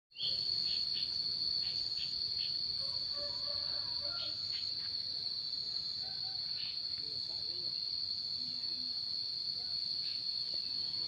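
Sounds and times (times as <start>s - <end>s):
cricket trilling: 0.1s - 11.0s.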